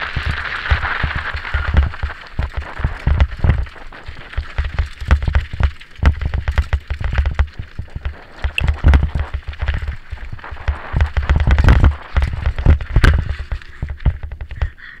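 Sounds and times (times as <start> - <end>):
wind buffeting microphone: 0.0 - 14.8
bike rattling and knocking: 0.0 - 15.0
tyres on dirt: 0.0 - 15.0.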